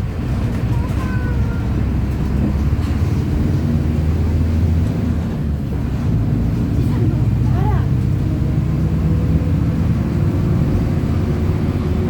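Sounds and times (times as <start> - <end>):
bus diesel engine at high revs: 0.0 - 12.0.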